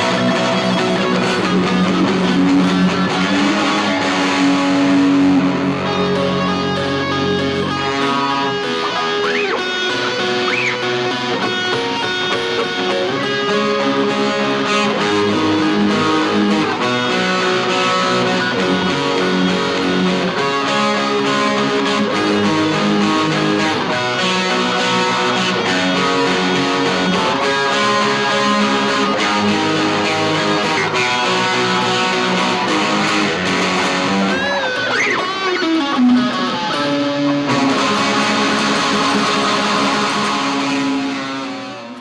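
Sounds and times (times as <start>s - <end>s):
guitars playing instrumental: 0.0s - 42.0s.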